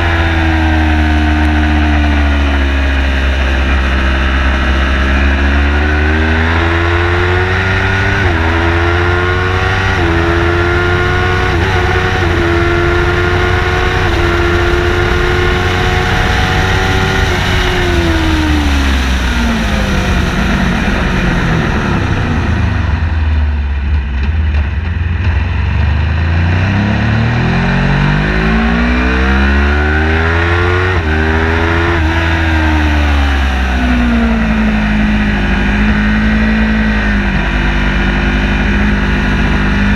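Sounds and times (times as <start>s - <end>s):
car engine accelerating through upshifts: 0.0s - 23.2s, 25.6s - 39.9s
road and wind rumble: 0.0s - 39.9s.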